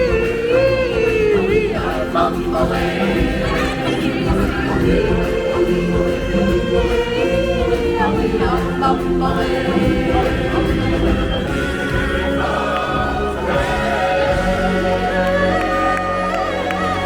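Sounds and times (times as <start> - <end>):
choir singing long notes: 0.0 - 17.0
instrumental music: 0.0 - 17.0.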